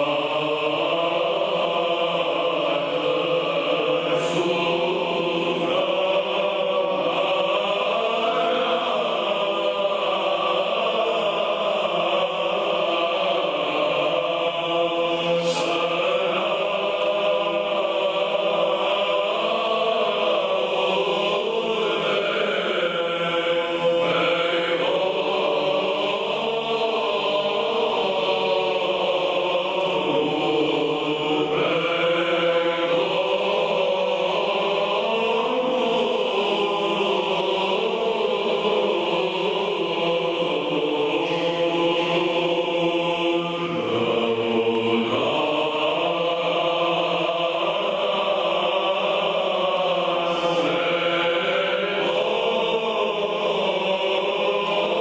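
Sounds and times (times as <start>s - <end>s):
male choir chanting: 0.0s - 55.0s.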